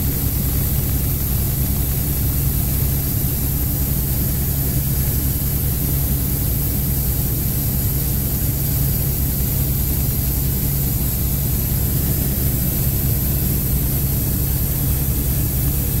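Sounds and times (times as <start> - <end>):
helicopter rotor and engine drone: 0.0 - 16.0
high turbine whine: 0.0 - 16.0.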